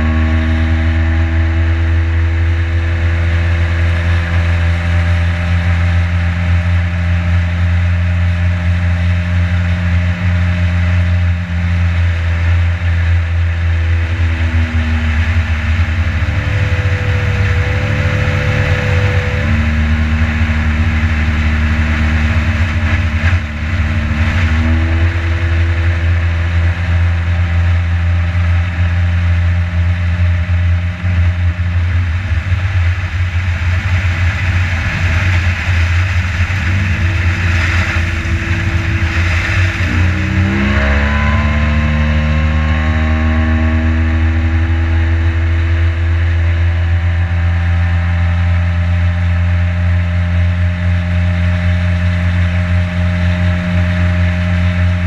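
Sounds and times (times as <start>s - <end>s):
boat motor running: 0.0s - 55.0s.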